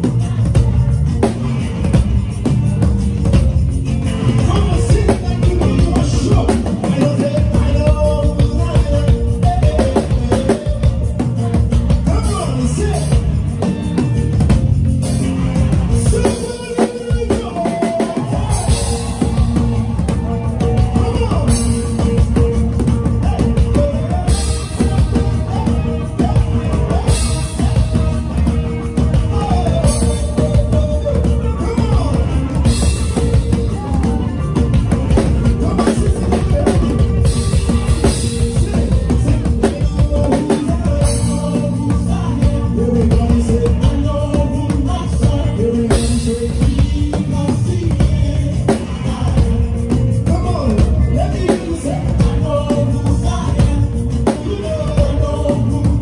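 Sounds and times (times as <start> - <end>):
bass guitar: 0.0 - 56.0
drum kit: 0.0 - 56.0
live band playing upbeat groove: 0.0 - 56.0.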